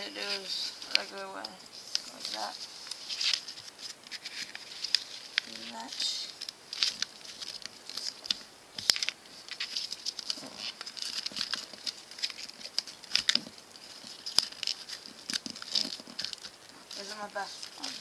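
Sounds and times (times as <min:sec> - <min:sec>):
paper rustling and scraping: 0:00.0 - 0:18.0.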